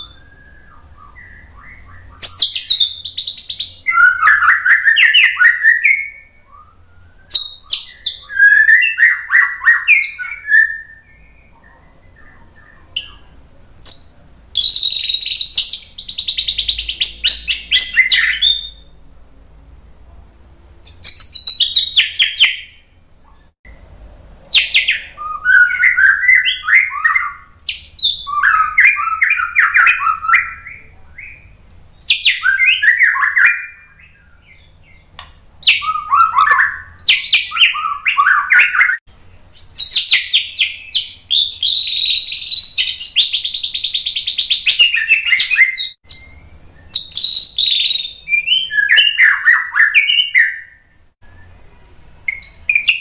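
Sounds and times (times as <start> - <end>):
bird singing whistled phrases: 0.0 - 19.0, 20.8 - 23.5, 24.5 - 53.0.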